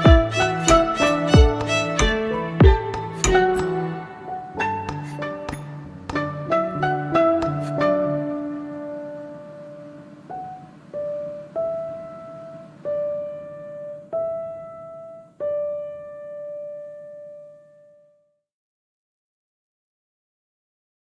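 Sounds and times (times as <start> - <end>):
slow piano melody: 0.0 - 18.3.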